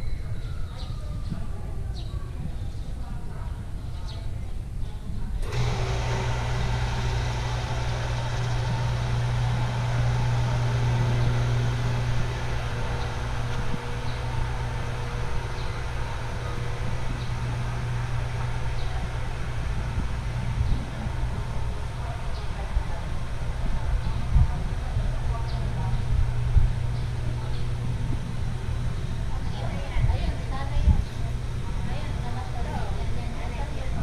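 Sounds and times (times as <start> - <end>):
road noise: 5.4 - 34.0
vehicle engine droning: 5.4 - 34.0.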